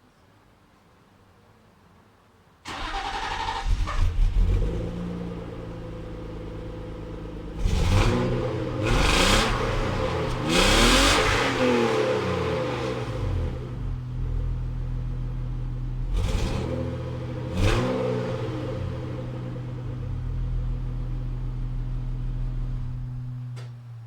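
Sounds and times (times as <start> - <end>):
car engine starting: 2.7 - 24.0
car engine revving: 2.8 - 23.4
car engine idling: 4.0 - 24.0.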